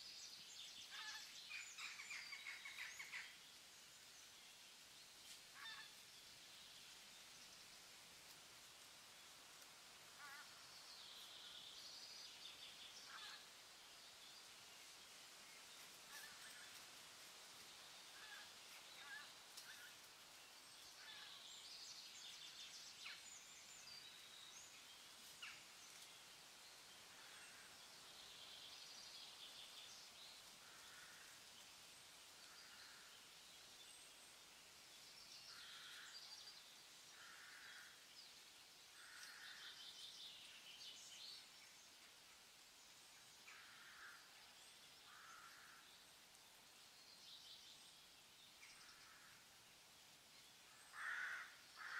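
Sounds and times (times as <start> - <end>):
outdoor background hiss: 0.0 - 51.9.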